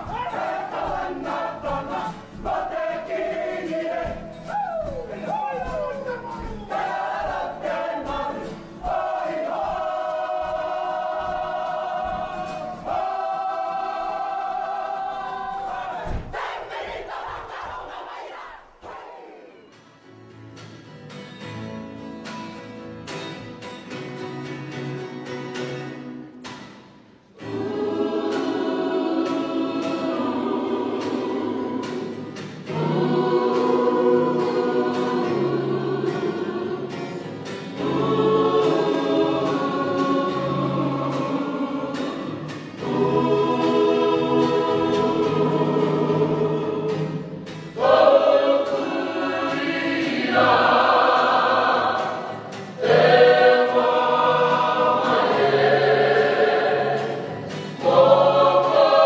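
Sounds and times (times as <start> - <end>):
choir singing held chords: 0.0 - 19.8, 27.2 - 59.0.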